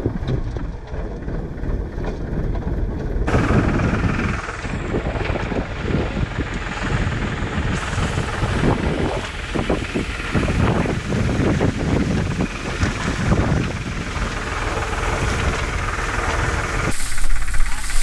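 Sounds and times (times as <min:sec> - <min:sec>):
tractor engine running: 0:00.0 - 0:18.0
wind noise on microphone: 0:00.0 - 0:18.0.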